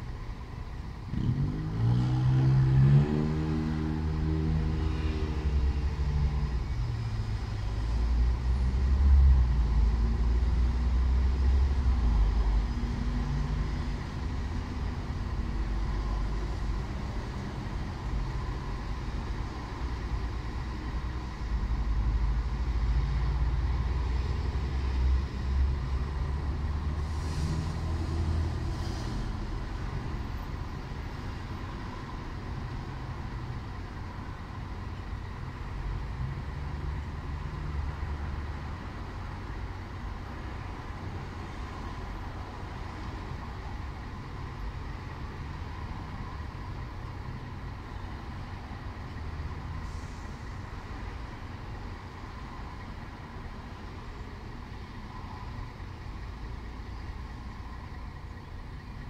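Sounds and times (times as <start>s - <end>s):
passing vehicles engine rumble: 0.0s - 59.0s.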